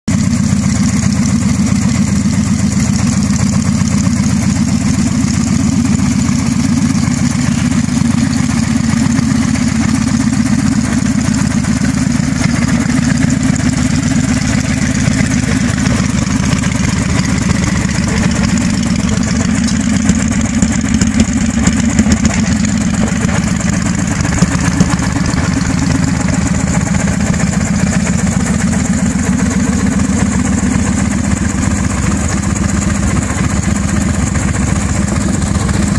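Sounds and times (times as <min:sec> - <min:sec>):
motorcycle engine idling: 0:00.1 - 0:35.9.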